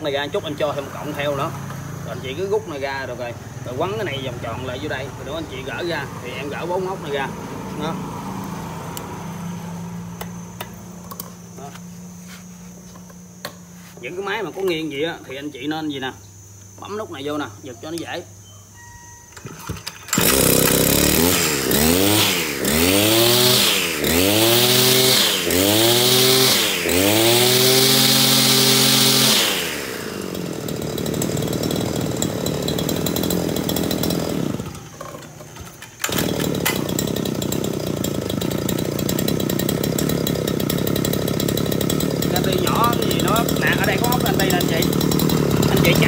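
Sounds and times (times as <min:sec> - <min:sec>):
brush-cutter engine revving: 0:00.0 - 0:11.9, 0:19.6 - 0:46.0.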